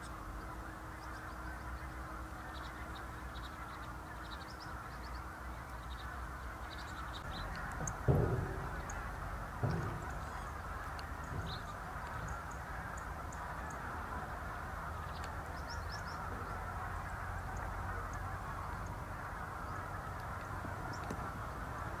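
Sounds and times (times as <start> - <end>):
distant birds calling: 0.0 - 22.0.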